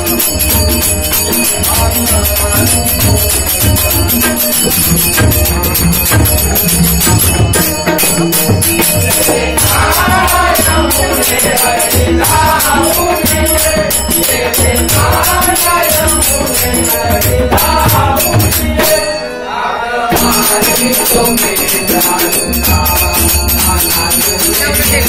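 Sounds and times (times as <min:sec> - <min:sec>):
hand drums beating: 0:00.0 - 0:19.2, 0:20.1 - 0:25.0
harmonium: 0:00.0 - 0:25.0
jingling hand percussion: 0:00.0 - 0:25.0
men singing together: 0:00.0 - 0:25.0.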